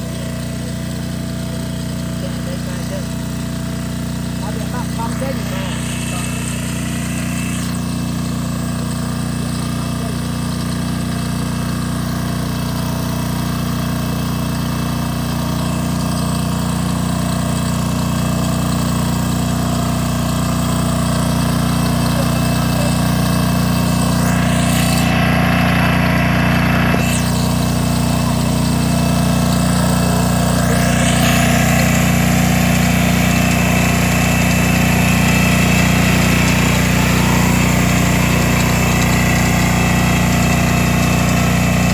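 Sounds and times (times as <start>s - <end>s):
tiller cutting through soil: 0.0s - 41.9s
tractor engine running: 0.0s - 41.9s.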